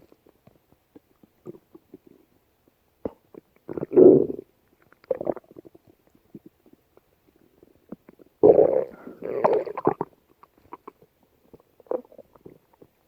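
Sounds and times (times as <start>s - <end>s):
stomach gurgling: 0.0s - 2.4s, 3.0s - 13.0s.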